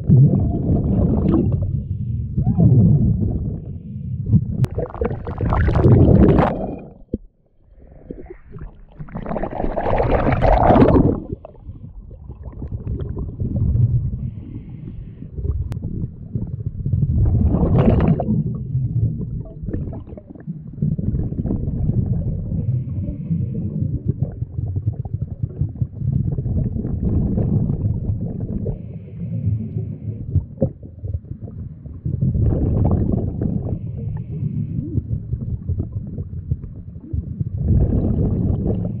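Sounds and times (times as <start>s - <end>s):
steady low rumble: 0.0s - 9.0s, 10.0s - 39.0s
bubbles gurgling underwater: 0.0s - 39.0s.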